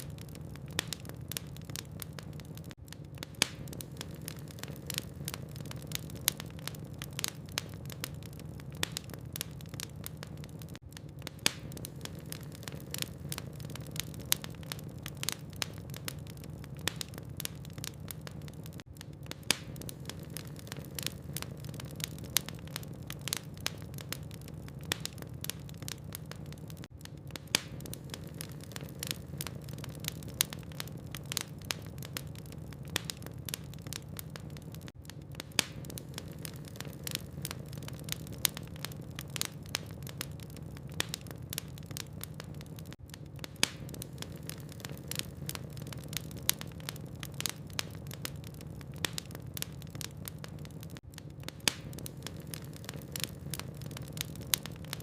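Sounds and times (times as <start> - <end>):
fire low hum: 0.0 - 55.0
wood fire crackling and popping: 0.0 - 55.0.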